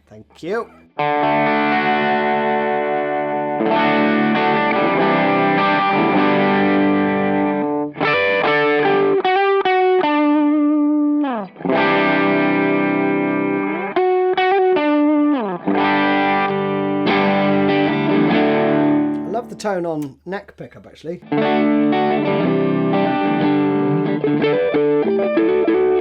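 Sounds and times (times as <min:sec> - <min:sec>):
overdriven electric guitar chords: 0:00.8 - 0:19.4, 0:21.2 - 0:26.0.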